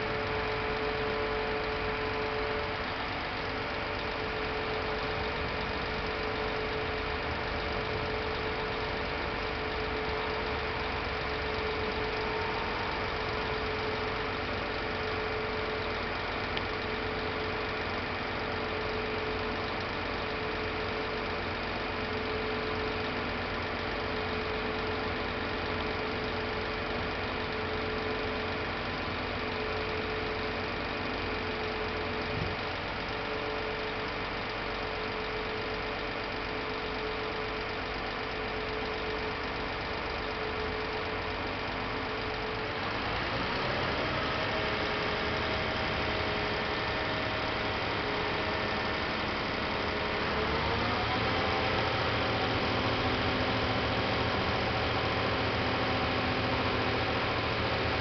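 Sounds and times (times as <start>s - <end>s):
diesel engine running: 0.0s - 58.0s
hydraulic whine: 0.0s - 58.0s.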